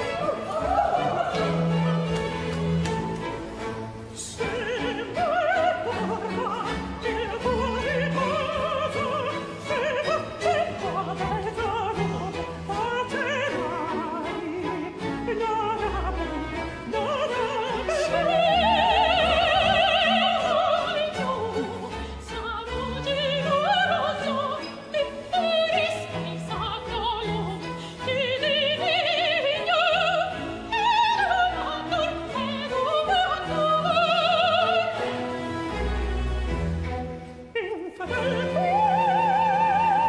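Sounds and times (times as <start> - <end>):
high voice singing opera aria: 0.0 - 2.6, 4.1 - 35.0, 37.6 - 40.0
orchestra with bowed strings: 0.0 - 40.0.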